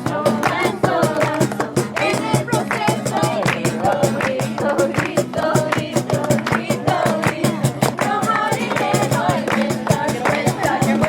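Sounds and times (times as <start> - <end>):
latin music with singing: 0.0 - 11.0.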